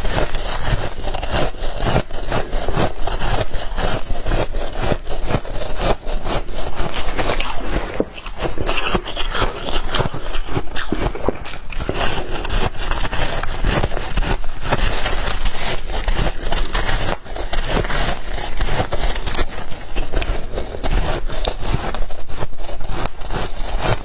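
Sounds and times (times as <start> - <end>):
crunching and chewing ice: 0.0 - 24.0.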